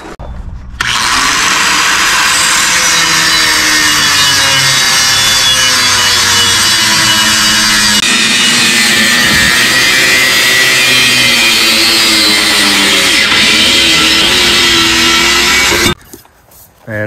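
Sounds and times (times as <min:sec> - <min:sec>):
angle grinder cutting metal pipe: 0:00.8 - 0:16.0.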